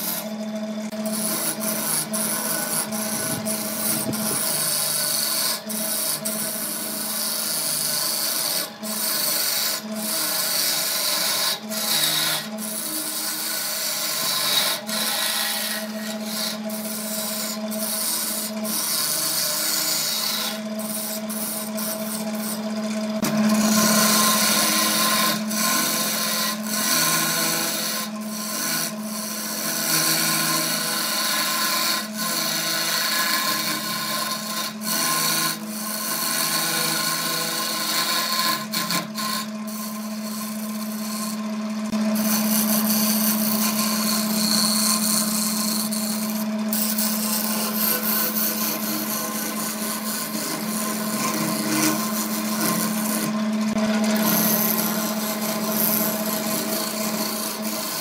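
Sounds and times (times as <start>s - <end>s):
turning tool scraping wood: 0.0s - 58.0s
wood lathe motor hum: 0.0s - 58.0s.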